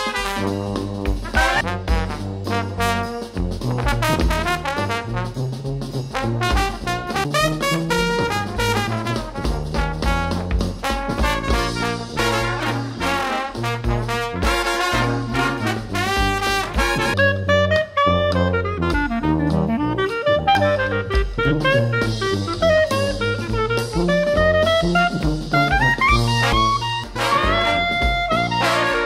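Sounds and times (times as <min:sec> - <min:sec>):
upbeat jazz with brass: 0:00.0 - 0:29.0.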